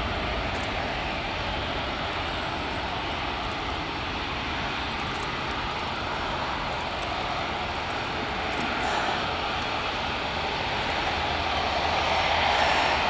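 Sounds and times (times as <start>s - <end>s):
jet engines rushing hiss: 0.0s - 13.0s.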